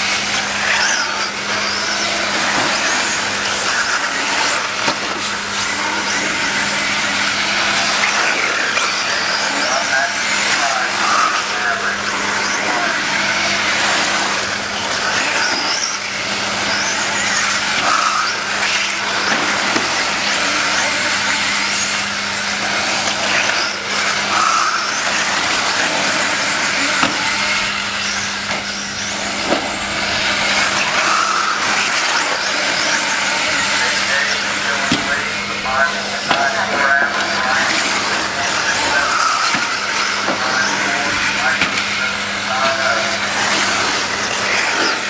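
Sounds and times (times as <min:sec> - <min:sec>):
small race car engines whining: 0:00.0 - 0:45.0.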